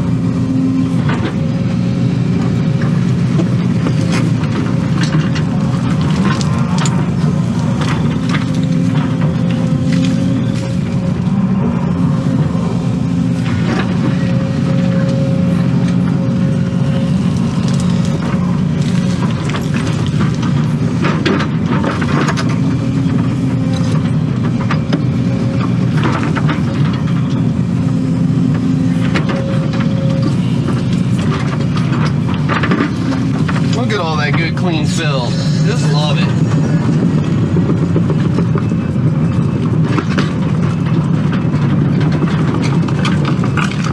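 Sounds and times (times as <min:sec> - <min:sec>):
hydraulic whine: 0:00.0 - 0:40.8
diesel engine under load: 0:00.0 - 0:43.9.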